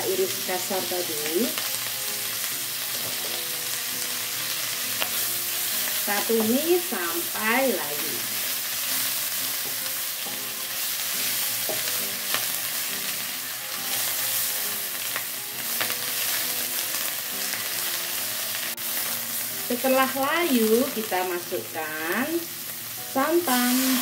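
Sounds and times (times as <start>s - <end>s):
leaves sizzling in hot oil: 0.0s - 24.0s.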